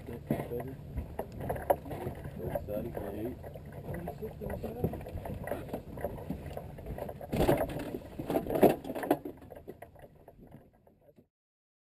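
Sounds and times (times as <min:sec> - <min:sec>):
knocks and clatter in a boat: 0:00.0 - 0:11.3.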